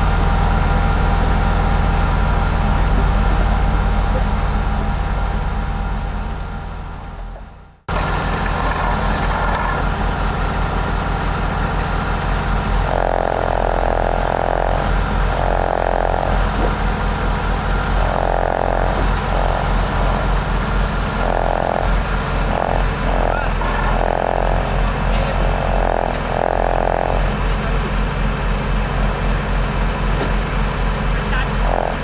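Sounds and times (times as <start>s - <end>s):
diesel engine running: 0.0s - 32.0s
mid-pitched whine: 0.0s - 32.0s.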